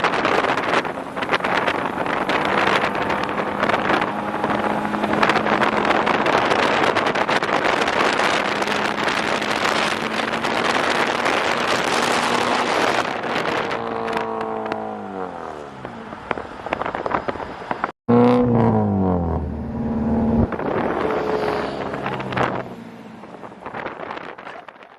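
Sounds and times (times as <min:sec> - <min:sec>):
car engine revving high: 0:00.1 - 0:16.0, 0:18.1 - 0:23.4.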